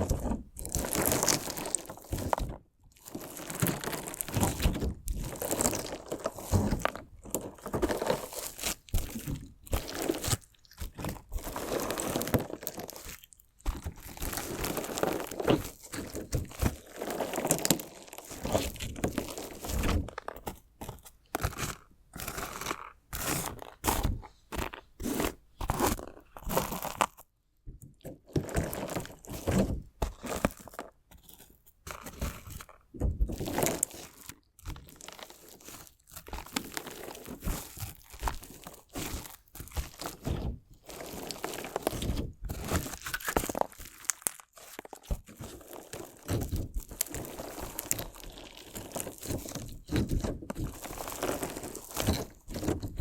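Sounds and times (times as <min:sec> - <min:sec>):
crunchy slime crunching: 0:00.0 - 0:27.4, 0:28.1 - 0:53.0.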